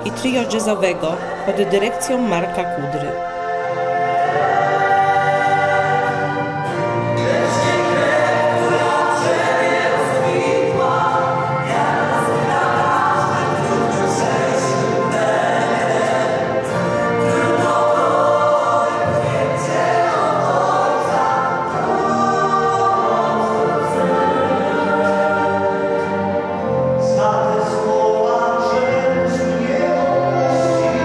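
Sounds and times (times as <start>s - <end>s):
mixed vocal group singing: 0.0s - 31.0s
string orchestra: 0.0s - 31.0s.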